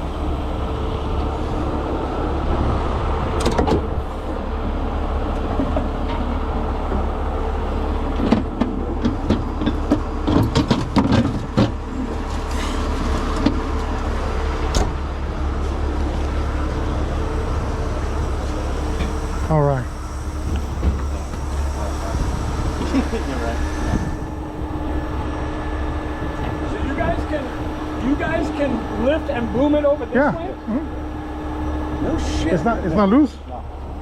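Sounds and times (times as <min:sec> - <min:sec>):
tow truck engine running: 0:00.0 - 0:34.0.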